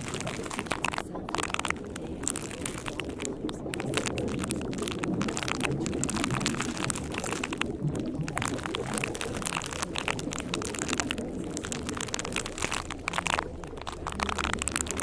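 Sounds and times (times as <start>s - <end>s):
steady rain patter: 0.0s - 15.0s.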